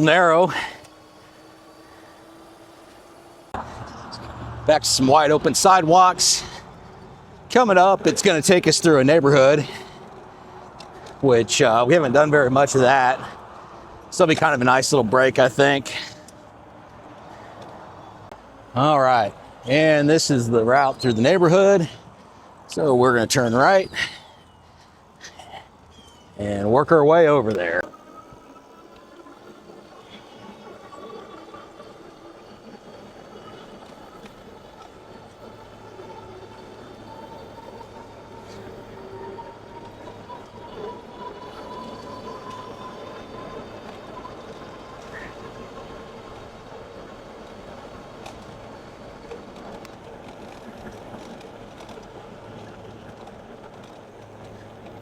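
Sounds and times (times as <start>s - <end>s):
tyres rolling on pavement: 0.0s - 55.0s.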